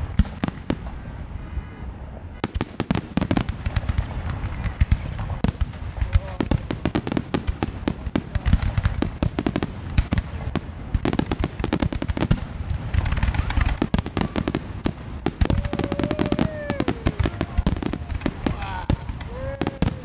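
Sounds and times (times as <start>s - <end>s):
fireworks crackling: 0.0s - 20.0s.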